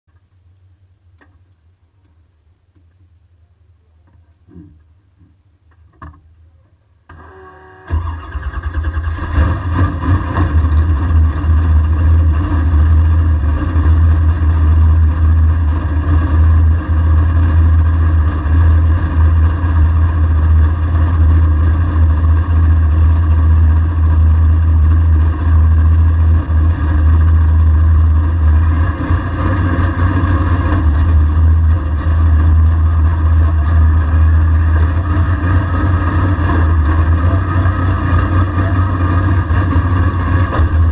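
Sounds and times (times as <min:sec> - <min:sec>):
car engine choppy idle: 0:08.1 - 0:40.9.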